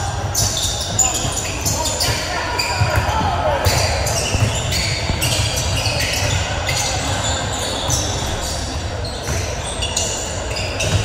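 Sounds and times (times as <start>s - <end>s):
faint voices: 0.0s - 11.0s
sneakers squeaking: 0.0s - 11.0s
basketball bouncing on court: 0.1s - 9.7s, 10.8s - 11.0s.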